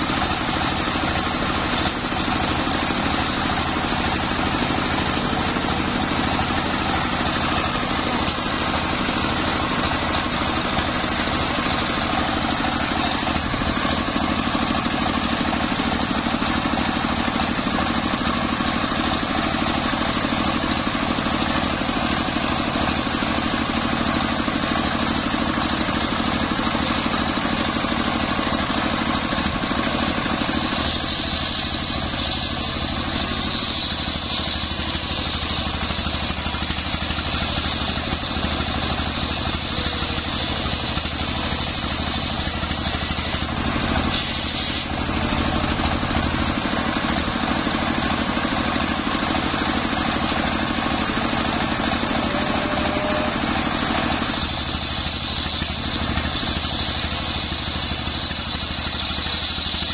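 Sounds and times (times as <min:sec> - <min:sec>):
diesel engine running: 0:00.0 - 0:59.9
saw blade whining through log: 0:00.0 - 0:59.9.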